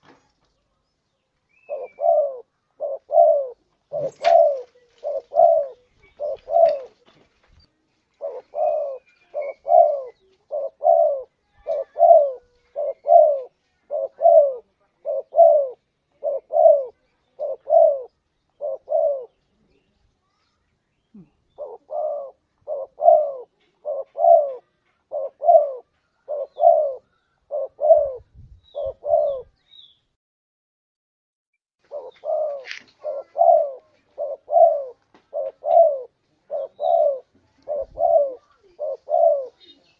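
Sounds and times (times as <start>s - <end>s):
dove cooing: 1.5s - 7.1s, 8.1s - 19.8s, 21.1s - 29.6s, 31.8s - 39.9s.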